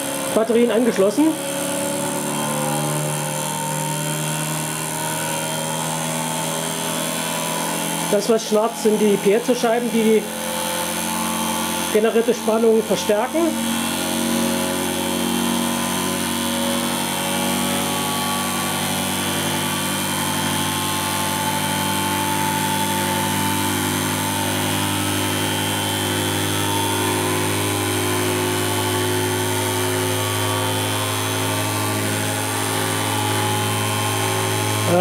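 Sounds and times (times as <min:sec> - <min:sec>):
motor-generator humming: 0:00.0 - 0:35.0
rasping buzz of piezo discs: 0:00.0 - 0:35.0.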